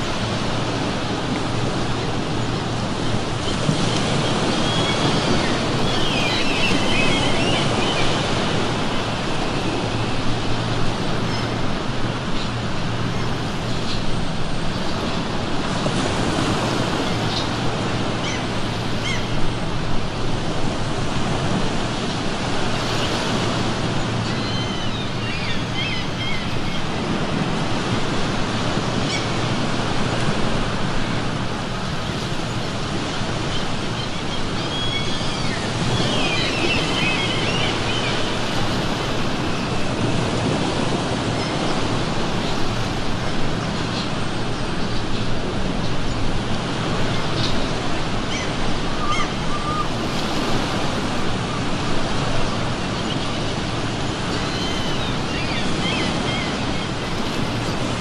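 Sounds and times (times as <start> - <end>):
gulls calling: 0.0 - 58.0
ocean waves breaking on shore: 0.0 - 58.0.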